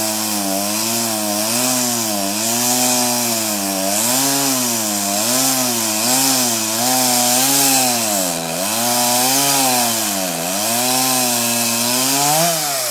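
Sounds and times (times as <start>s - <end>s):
chainsaw cutting a log: 0.0s - 12.9s.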